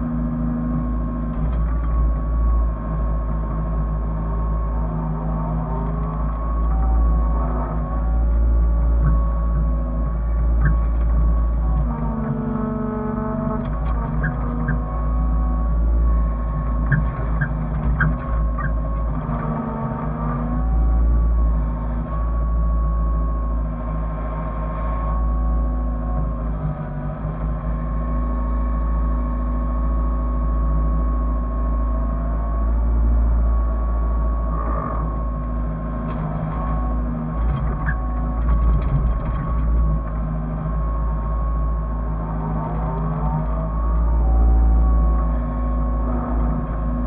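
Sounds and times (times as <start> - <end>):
excavator diesel engine running: 0.0 - 47.0
hydraulic whine: 0.0 - 47.0.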